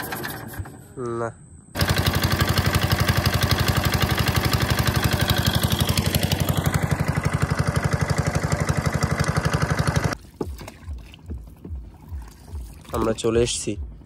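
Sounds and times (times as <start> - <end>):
boat engine running: 1.8 - 14.0.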